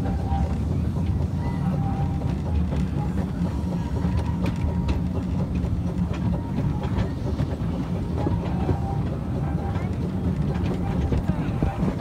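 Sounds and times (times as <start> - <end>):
clicks and knocks of train: 0.0 - 12.0
train wheels rumbling on rails: 0.0 - 12.0.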